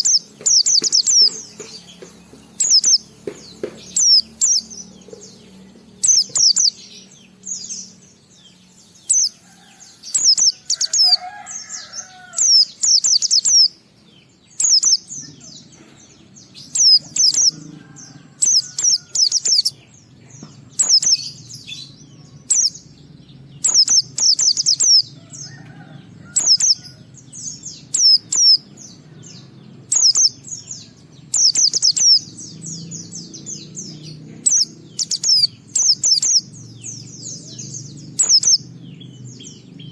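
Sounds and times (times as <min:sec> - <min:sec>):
bird singing high falling chirps: 0:00.0 - 0:39.9.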